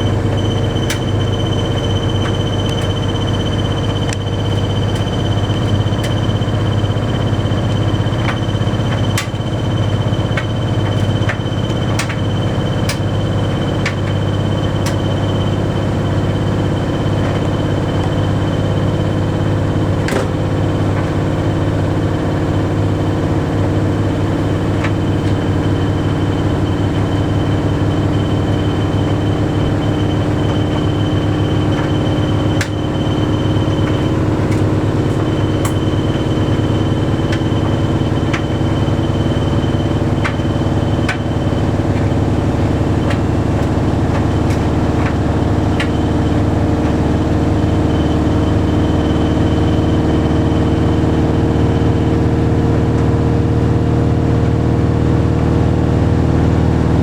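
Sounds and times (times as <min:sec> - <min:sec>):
load tumbling clicks: 0:00.0 - 0:53.8
tumble dryer humming: 0:00.0 - 0:57.0.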